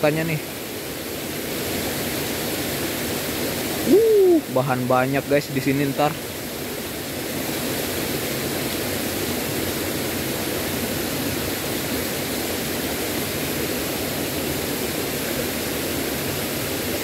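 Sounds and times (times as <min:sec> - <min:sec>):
stream water running: 0:00.0 - 0:17.0.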